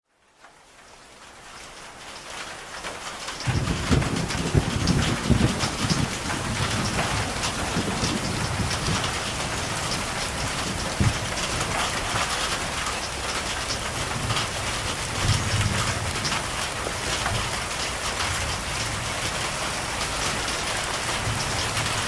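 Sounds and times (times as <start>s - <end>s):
steady rain falling: 0.0s - 22.0s
low thunder rumble: 3.4s - 22.0s.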